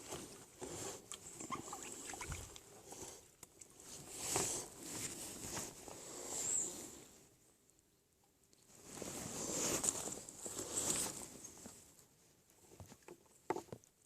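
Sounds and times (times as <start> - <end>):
handling noise in a boat: 0.0 - 7.3, 8.7 - 14.0.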